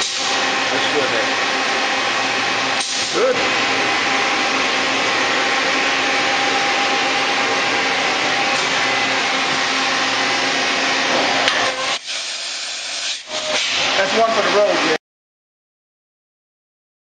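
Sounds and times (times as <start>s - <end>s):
machining center whirring hiss: 0.0s - 15.0s.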